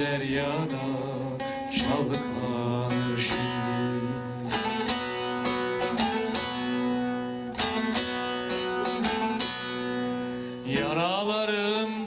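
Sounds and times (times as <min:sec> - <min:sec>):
plucked string instrument: 0:00.0 - 0:12.0.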